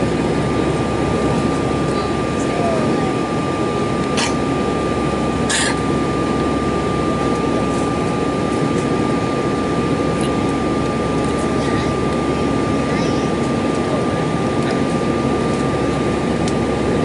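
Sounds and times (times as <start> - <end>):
jet engine drone in cabin: 0.0 - 17.0
thin constant whine: 0.0 - 17.0.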